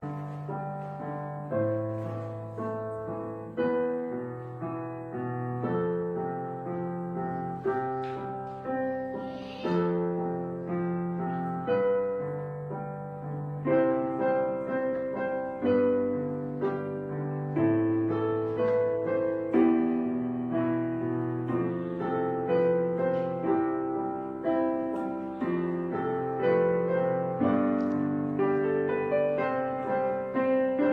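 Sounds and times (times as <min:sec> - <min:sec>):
gentle piano music: 0:00.0 - 0:30.9.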